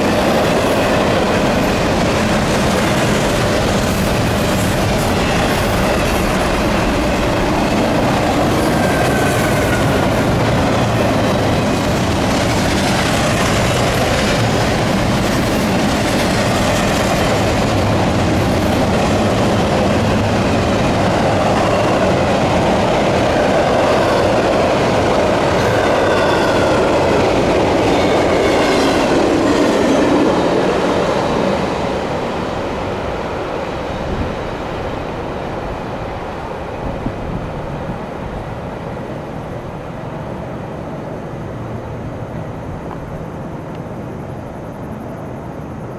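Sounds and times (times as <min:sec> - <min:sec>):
freight train rumbling on rails: 0:00.0 - 0:45.9.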